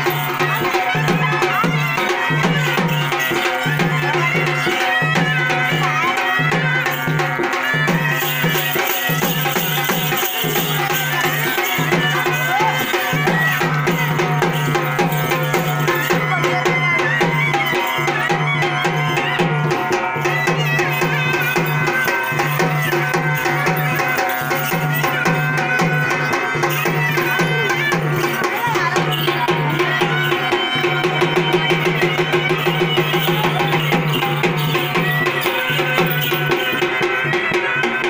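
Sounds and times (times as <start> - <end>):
crowd voices: 0.0 - 38.0
drums beating steady rhythm: 0.0 - 38.0
wavering folk melody: 0.0 - 38.0.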